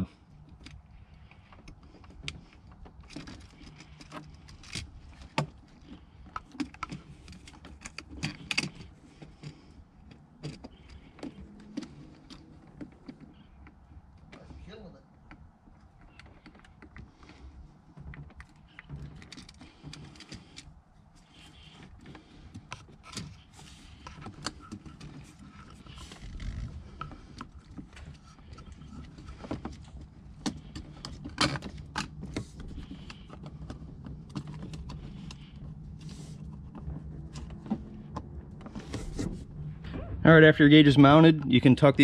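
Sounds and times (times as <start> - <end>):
cable rustling: 0.0 - 42.0.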